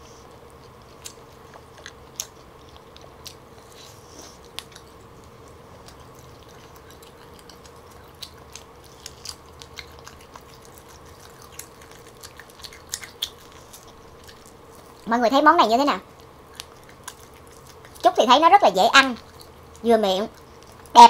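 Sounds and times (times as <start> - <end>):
person chewing meat: 0.0 - 15.1, 16.0 - 21.0
faint hum: 0.0 - 21.0.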